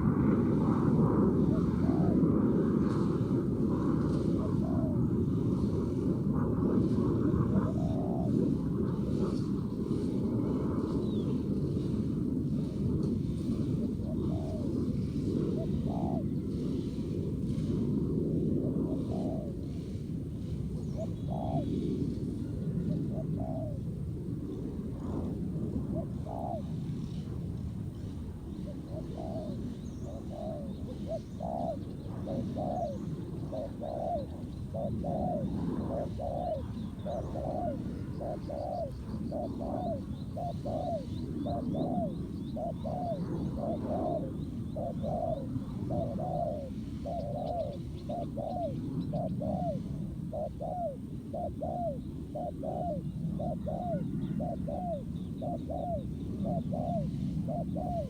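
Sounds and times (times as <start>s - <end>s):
doves cooing: 0.0s - 11.6s, 12.2s - 17.8s, 18.4s - 58.0s.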